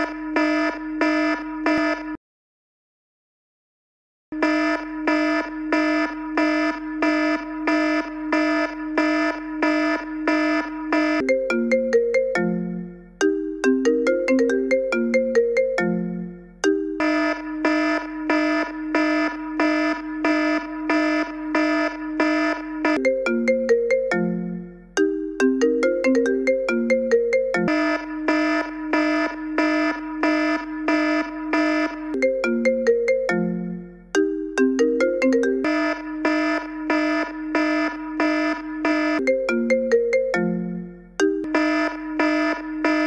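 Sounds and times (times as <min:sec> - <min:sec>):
repeating electronic beep: 0:04.4 - 0:43.0
synthesized ringtone melody: 0:04.4 - 0:43.0.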